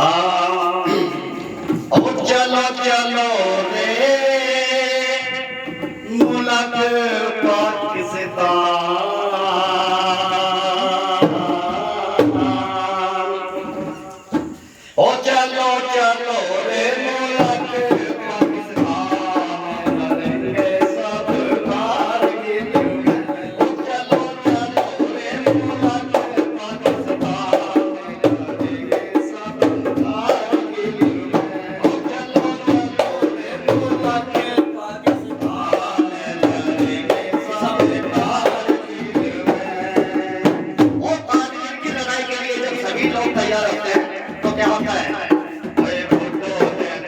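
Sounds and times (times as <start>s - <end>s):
driving drum beat: 0.0s - 2.8s, 5.6s - 8.5s, 10.8s - 12.9s, 13.6s - 15.5s, 17.1s - 47.0s.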